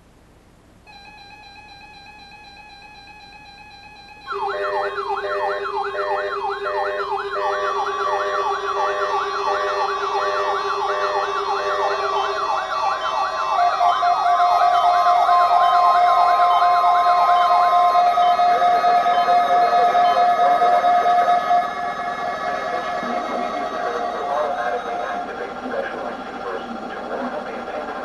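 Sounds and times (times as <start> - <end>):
pulsing electronic beeps: 0.9 - 28.0
steady electronic tones: 0.9 - 28.0
warbling siren sweep: 2.2 - 28.0.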